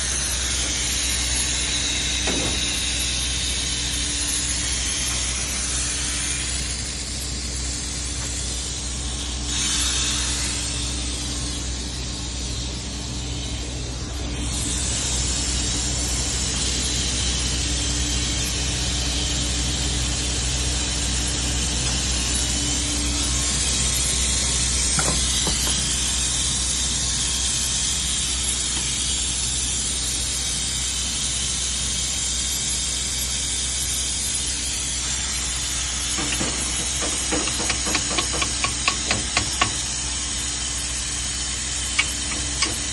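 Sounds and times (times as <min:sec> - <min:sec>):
escaping gas hissing: 0:00.0 - 0:42.9
low machine hum: 0:00.0 - 0:42.9.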